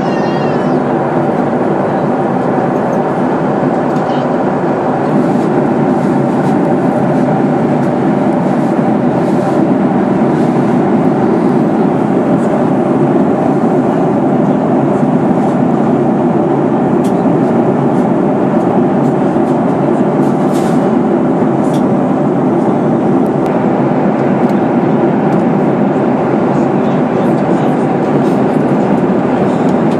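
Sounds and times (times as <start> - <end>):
airplane cabin engine and airflow noise: 0.0 - 29.9.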